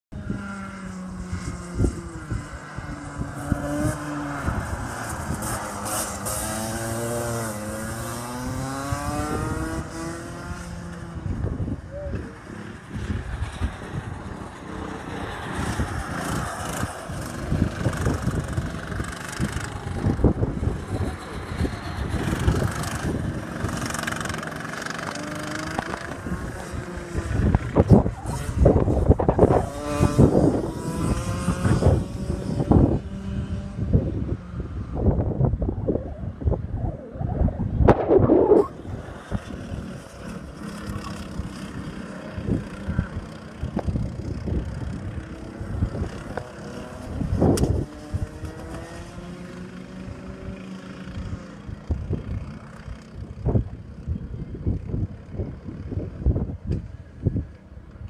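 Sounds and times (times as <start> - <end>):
racing kart engines revving: 0.2 - 55.6.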